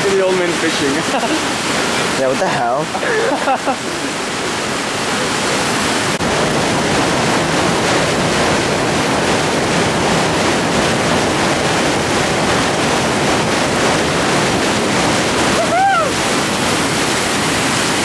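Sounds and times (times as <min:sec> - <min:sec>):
whitewater rapids rushing: 0:00.0 - 0:18.0.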